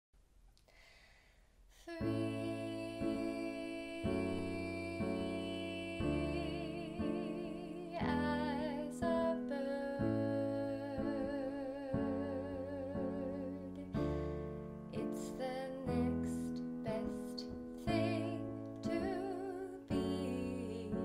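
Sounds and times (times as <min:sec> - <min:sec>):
woman singing with vibrato: 0:01.8 - 0:14.2, 0:14.9 - 0:21.0.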